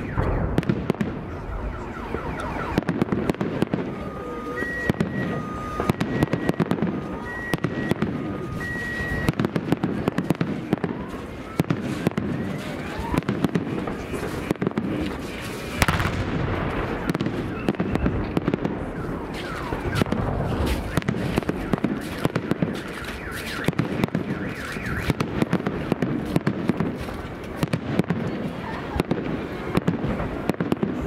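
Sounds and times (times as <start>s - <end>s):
fireworks bangs and crackles: 0.0s - 31.0s
whistling fireworks: 0.0s - 31.0s.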